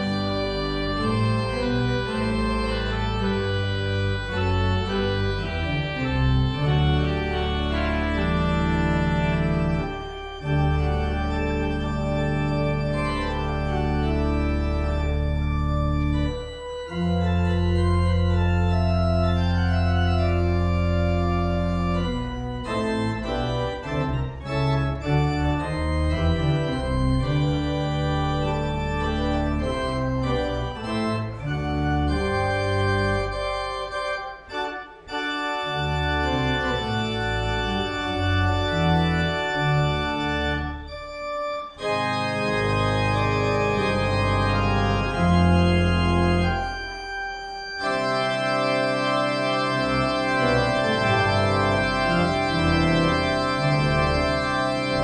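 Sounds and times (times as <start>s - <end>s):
organ playing sustained chords: 0.0s - 55.0s.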